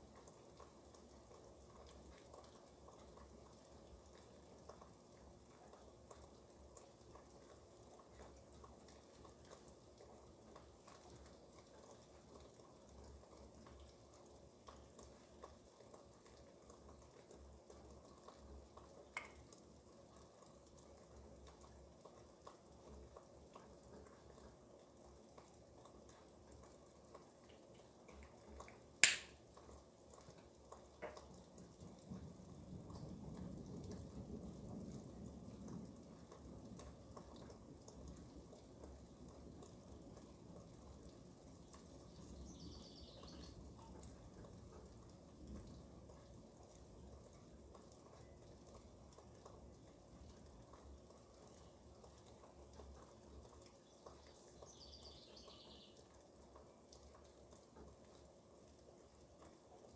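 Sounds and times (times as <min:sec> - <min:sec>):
drips falling off a roof: 0:00.0 - 0:55.1, 0:55.9 - 0:59.9
faint steady rain: 0:00.0 - 0:59.9.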